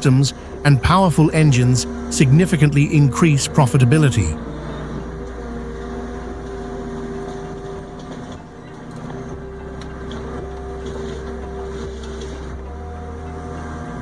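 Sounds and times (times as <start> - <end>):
heavy machinery engine drone: 0.0 - 14.0.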